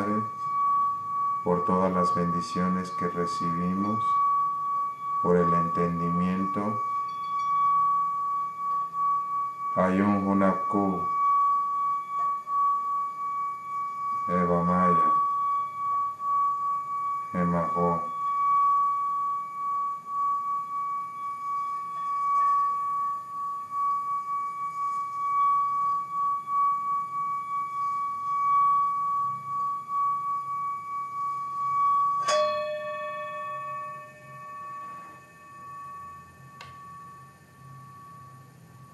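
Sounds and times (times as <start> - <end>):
singing bowl ringing tone: 0.0 - 38.9
singing bowl struck: 0.0 - 38.9.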